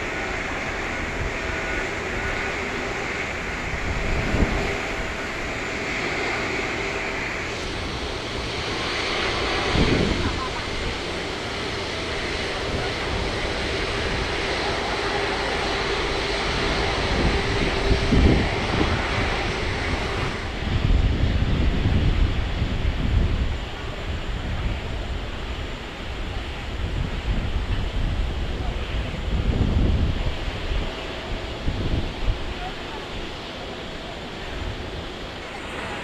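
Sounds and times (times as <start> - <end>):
jet engines whining: 0.0 - 36.0
wind buffeting microphone: 0.0 - 36.0.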